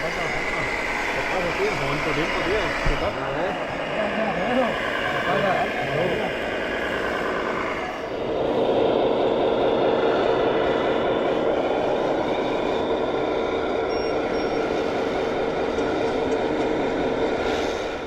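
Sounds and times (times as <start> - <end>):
model machinery mechanical drone: 0.0 - 18.0.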